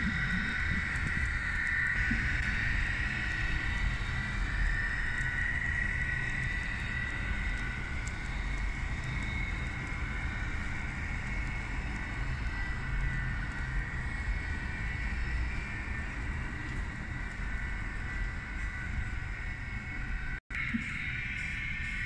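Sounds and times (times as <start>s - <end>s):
model locomotive hum: 0.0s - 20.4s
high whine: 0.0s - 22.0s.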